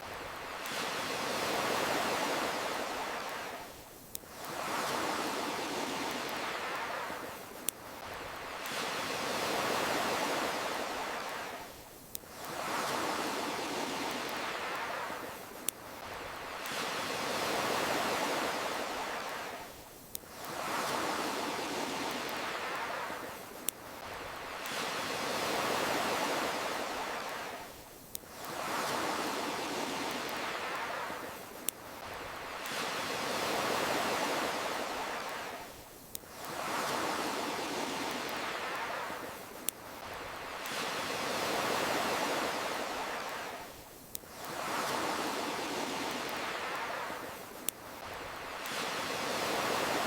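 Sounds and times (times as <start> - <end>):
ocean waves washing in: 0.0 - 50.0.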